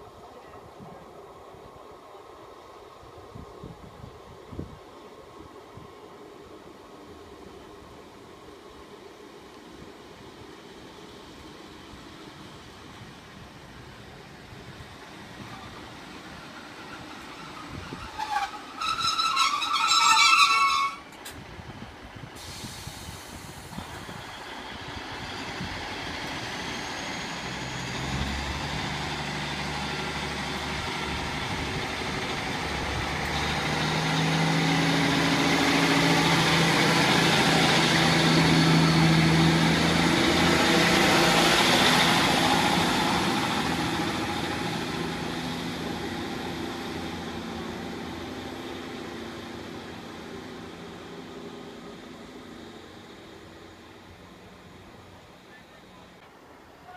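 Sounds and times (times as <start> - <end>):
diesel train engines accelerating: 0.0 - 56.9.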